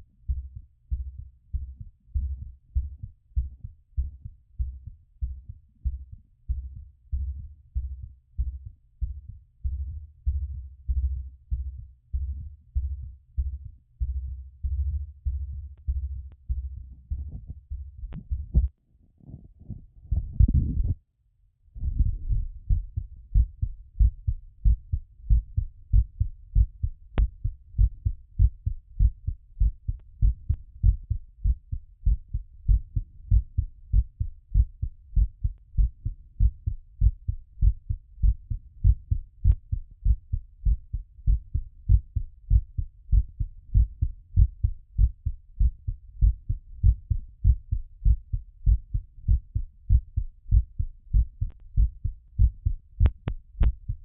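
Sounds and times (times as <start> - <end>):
heartbeat through a stethoscope: 0.0 - 21.0, 21.8 - 54.0.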